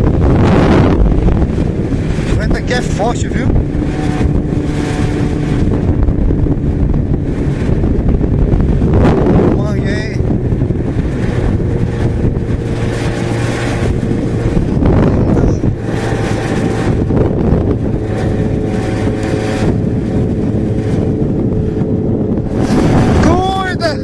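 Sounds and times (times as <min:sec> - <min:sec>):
motorcycle engine running steadily: 0:00.0 - 0:24.0
wind blowing across microphone: 0:00.0 - 0:24.0.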